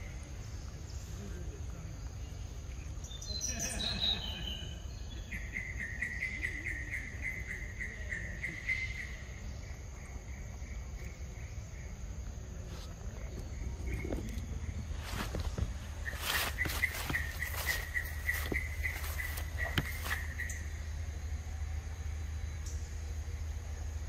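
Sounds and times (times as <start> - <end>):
insect high-pitched whine: 0.0 - 24.0
pulsing chirring insect call: 0.0 - 24.0.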